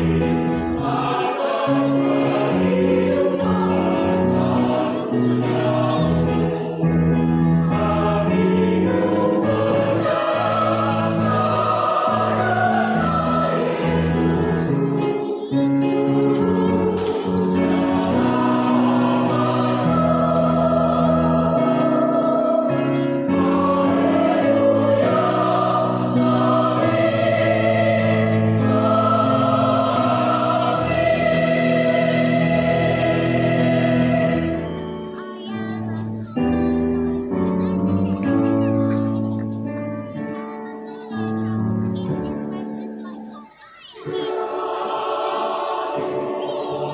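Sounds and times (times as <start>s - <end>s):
mixed choir singing: 0.0s - 36.1s, 43.4s - 46.9s.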